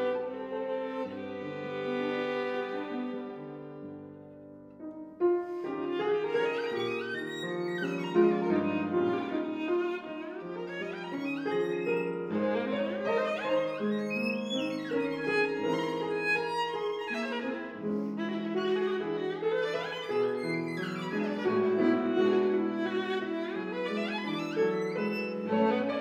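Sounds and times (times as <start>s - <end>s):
violin playing: 0.0s - 4.2s, 5.5s - 26.0s
piano playing: 0.0s - 26.0s.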